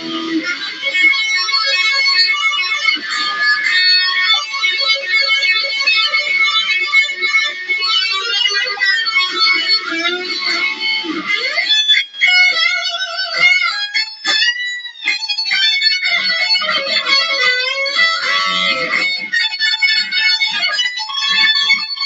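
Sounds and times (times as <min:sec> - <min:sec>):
electric guitar shredding: 0:00.0 - 0:22.0.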